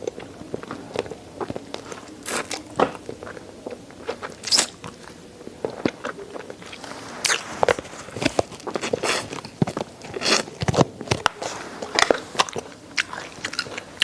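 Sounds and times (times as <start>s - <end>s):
chewing and crunching bones: 0.0s - 14.0s.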